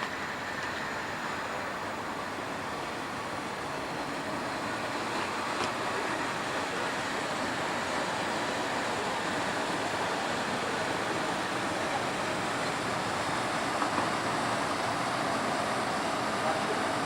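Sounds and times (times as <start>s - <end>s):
train rolling on rails: 0.0s - 17.0s.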